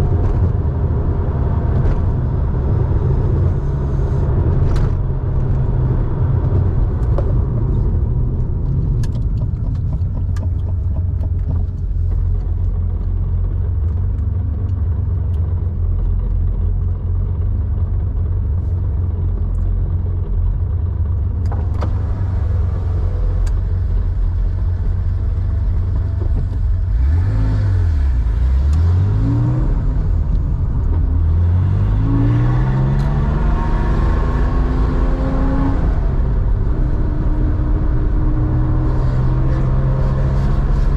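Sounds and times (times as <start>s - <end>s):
car engine droning and revving: 0.0s - 40.9s.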